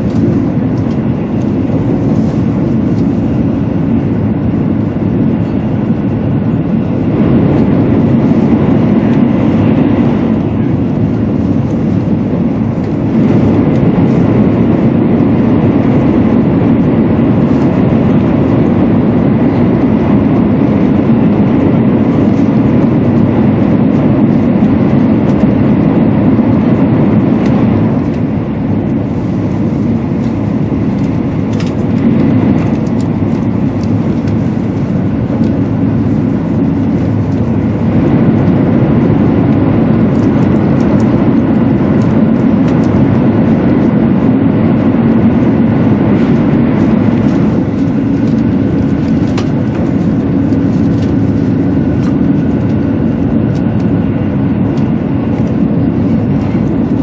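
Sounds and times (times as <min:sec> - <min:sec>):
air rushing past train: 0:00.0 - 0:57.0
faint steady whine: 0:00.0 - 0:57.0
train wheels rumbling on rail: 0:00.0 - 0:57.0.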